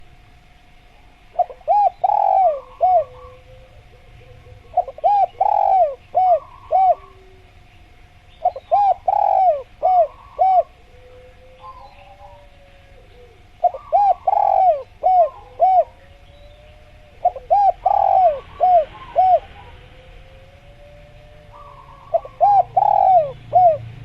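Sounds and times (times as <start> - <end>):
dove cooing: 0.9 - 24.0.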